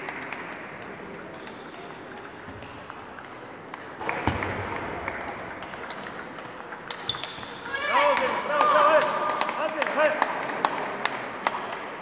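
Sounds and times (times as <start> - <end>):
sports hall hum: 0.0 - 12.0
table tennis balls clicking: 0.0 - 12.0.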